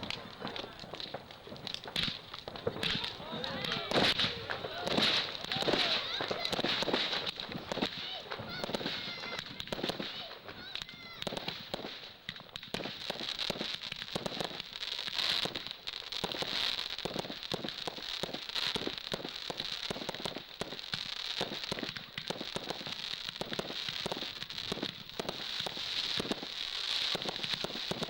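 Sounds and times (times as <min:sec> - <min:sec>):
fireworks crackling pops: 0:00.0 - 0:28.0.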